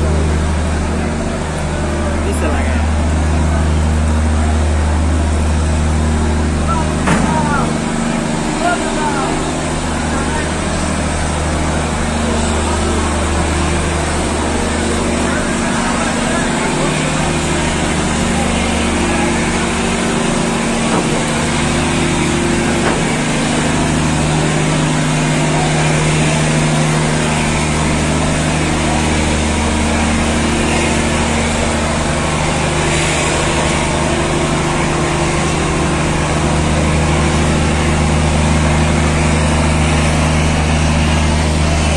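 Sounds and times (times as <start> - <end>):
boat engines droning: 0.0 - 41.9.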